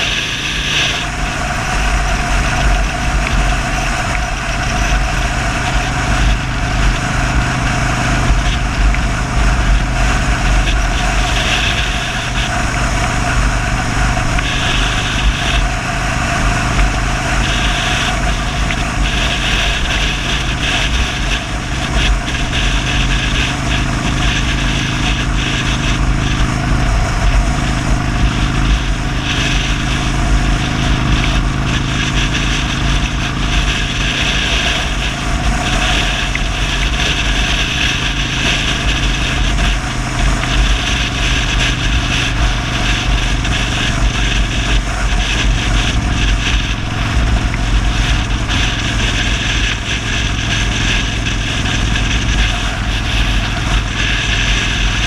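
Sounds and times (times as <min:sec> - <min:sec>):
motorcycle engine running: 0:00.0 - 0:55.0
road noise: 0:00.0 - 0:55.0
wind rush: 0:00.0 - 0:55.0.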